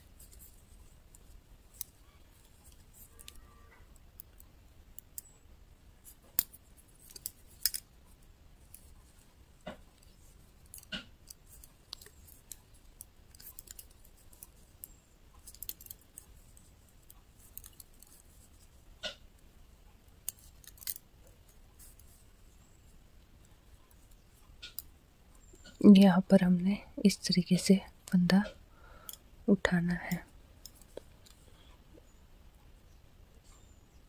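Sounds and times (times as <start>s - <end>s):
knitting needles clicking: 0.0s - 5.4s, 6.0s - 25.9s, 27.5s - 31.7s.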